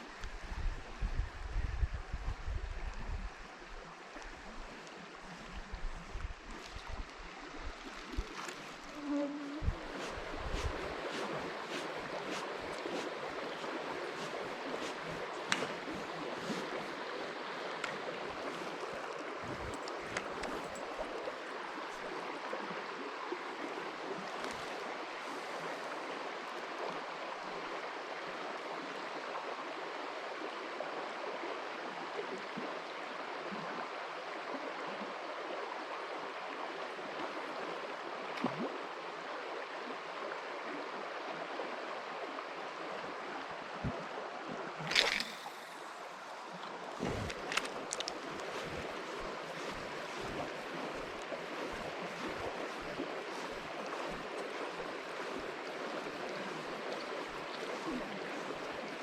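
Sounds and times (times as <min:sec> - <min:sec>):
river water flowing: 0:02.7 - 0:59.0.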